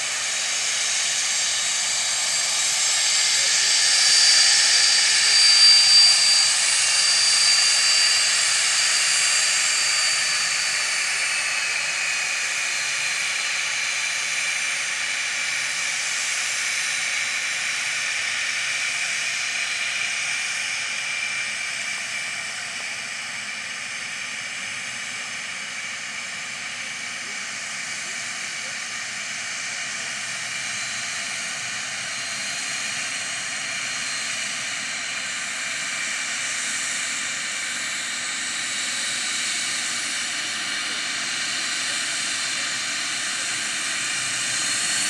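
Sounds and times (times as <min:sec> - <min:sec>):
jet engines whining and hissing: 0:00.0 - 0:45.0.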